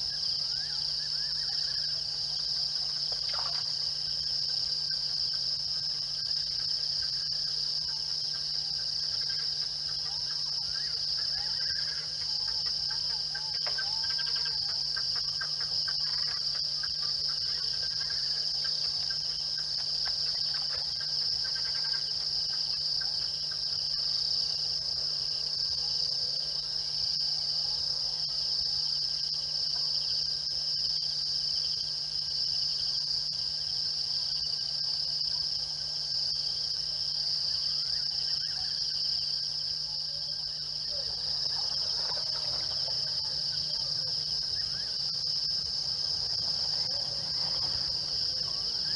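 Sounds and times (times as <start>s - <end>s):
night insects trilling: 0.0s - 48.9s.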